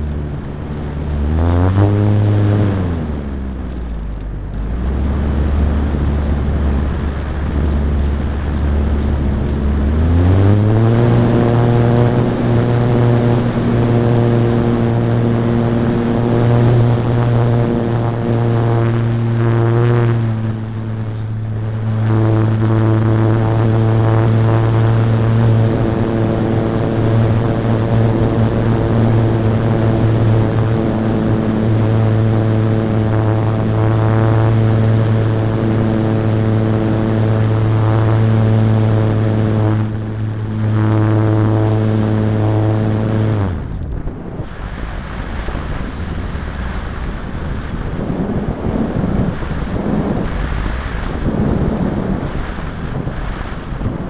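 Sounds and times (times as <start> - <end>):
model plane propeller humming: 0.0 - 54.0
wind rushing over microphone: 0.0 - 54.0.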